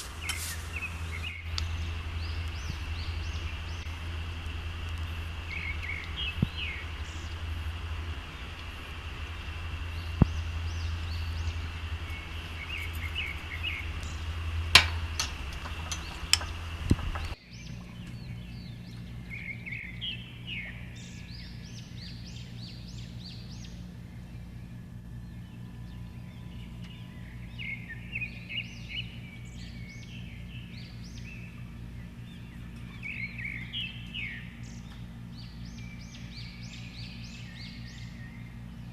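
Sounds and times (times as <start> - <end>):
birds chirping: 0.0 - 38.9
low hum: 0.0 - 38.9.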